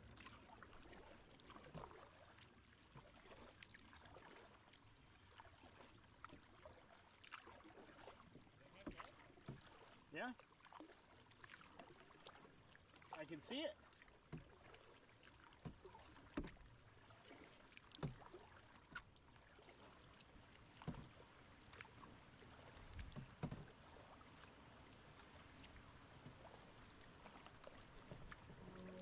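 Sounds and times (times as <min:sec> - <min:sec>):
paddle splashes and knocks: 0:00.0 - 0:29.0
quiet wash of water: 0:00.0 - 0:29.0.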